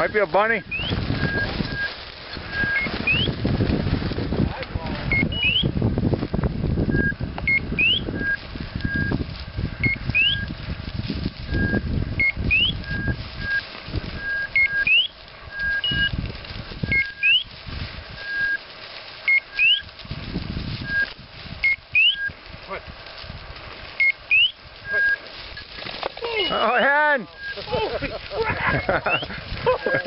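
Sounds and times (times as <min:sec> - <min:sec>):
footsteps through dry grass: 0:00.0 - 0:30.0.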